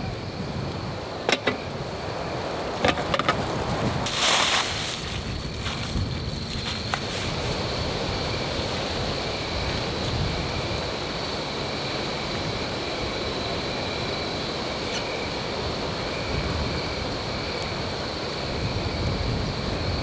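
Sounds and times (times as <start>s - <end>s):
insects chirring: 0.0s - 20.0s
surf rumbling: 0.0s - 20.0s.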